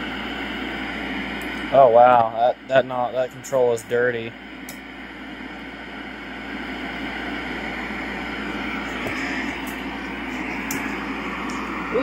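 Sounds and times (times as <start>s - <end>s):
tv static hiss: 0.0s - 12.0s.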